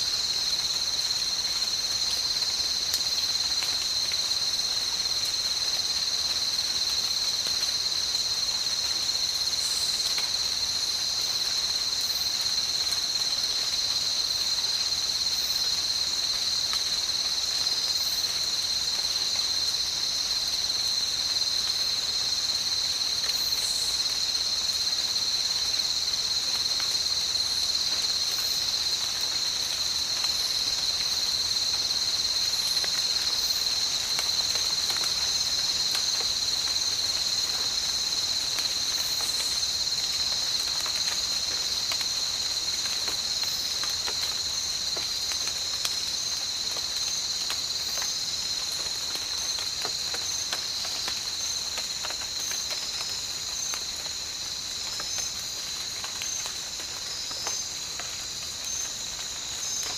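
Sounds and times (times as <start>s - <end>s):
insects trilling: 0.0s - 59.9s
light rain hissing: 0.0s - 59.9s.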